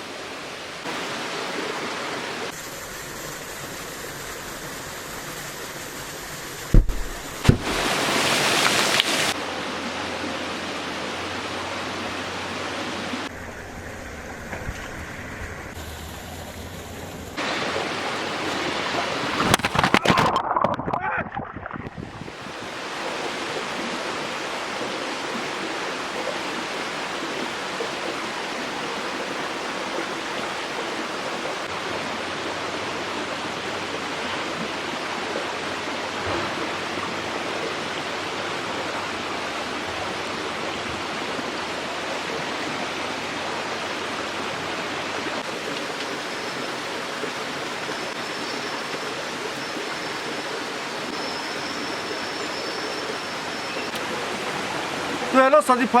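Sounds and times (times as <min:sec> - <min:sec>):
water rushing over rocks: 0:00.0 - 0:13.5, 0:14.3 - 0:56.0.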